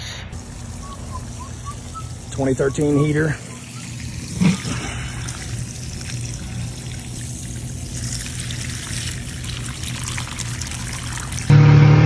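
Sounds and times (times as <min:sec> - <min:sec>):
water pouring and trickling: 0:00.4 - 0:11.5.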